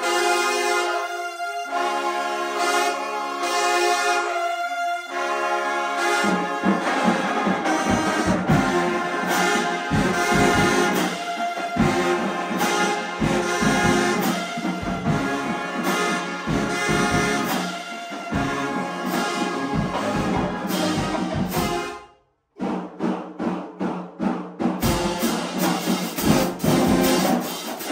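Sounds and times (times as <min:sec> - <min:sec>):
brass band playing: 0:00.0 - 0:23.6, 0:24.7 - 0:27.9.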